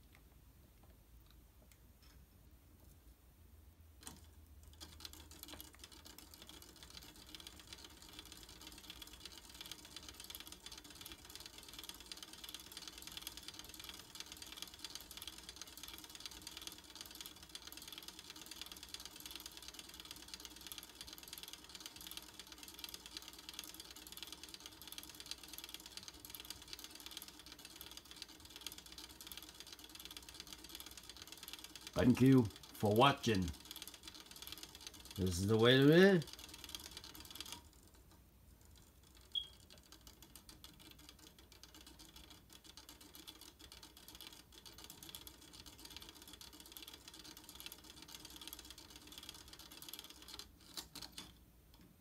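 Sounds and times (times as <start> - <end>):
rapid clicking of gears: 4.0 - 38.0, 38.6 - 51.4.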